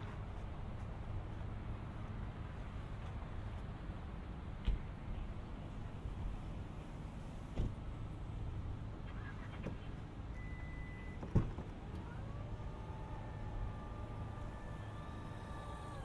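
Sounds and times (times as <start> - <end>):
faint vehicle engine: 0.0 - 16.0.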